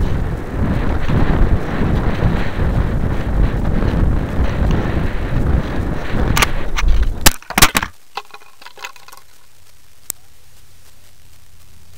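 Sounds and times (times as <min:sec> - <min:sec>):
wind rushing over camera: 0:00.0 - 0:11.9.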